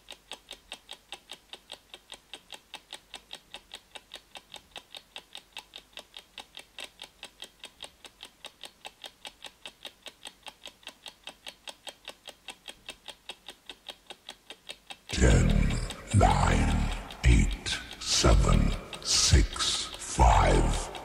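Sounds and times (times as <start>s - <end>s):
clock ticking: 0.0s - 21.0s.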